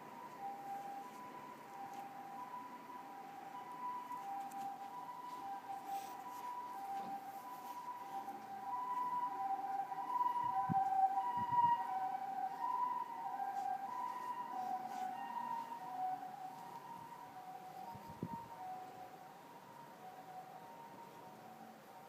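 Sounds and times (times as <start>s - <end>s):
two-tone siren: 0.0s - 22.0s.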